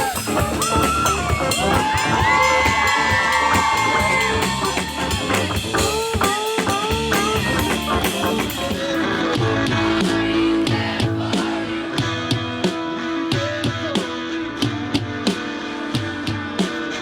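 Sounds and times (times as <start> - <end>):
drum beat: 0.0 - 15.3
guitar: 0.0 - 17.0.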